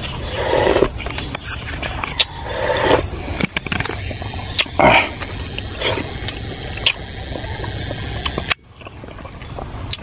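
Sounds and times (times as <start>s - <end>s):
rumble and hiss: 0.0s - 10.0s.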